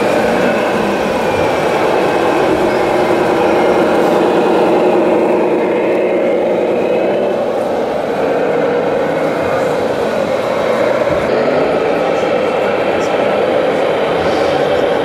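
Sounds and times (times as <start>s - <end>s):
busy hall crowd din: 0.0s - 15.0s
model truck engine drone: 0.0s - 15.0s.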